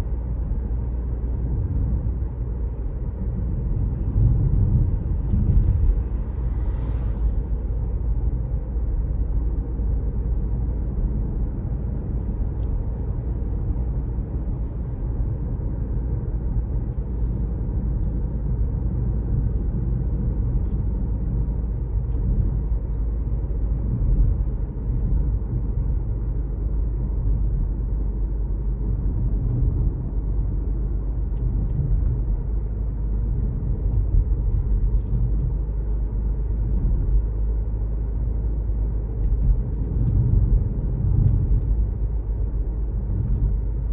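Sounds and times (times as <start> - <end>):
car engine and tyres rumbling: 0.0 - 43.9.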